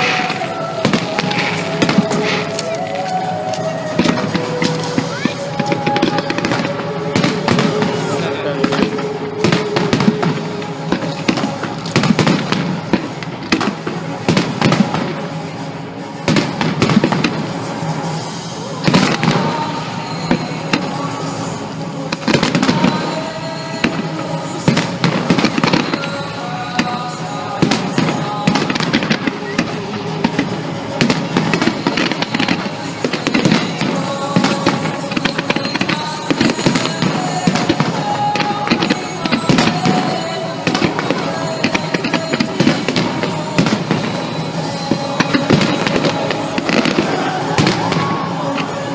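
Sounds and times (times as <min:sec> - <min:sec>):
fireworks crackling: 0:00.0 - 0:48.9
music: 0:00.0 - 0:48.9.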